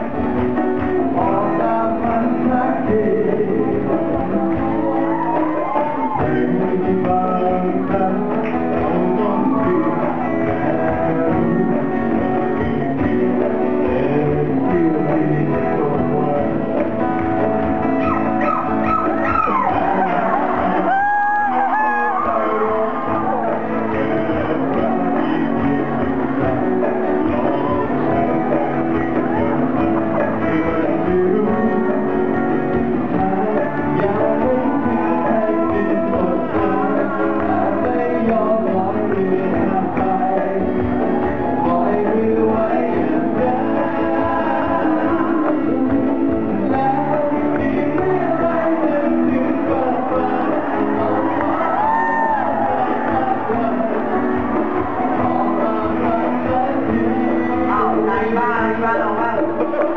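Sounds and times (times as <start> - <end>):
person singing: 0.0 - 59.9
pop-rock band with guitar: 0.0 - 59.9.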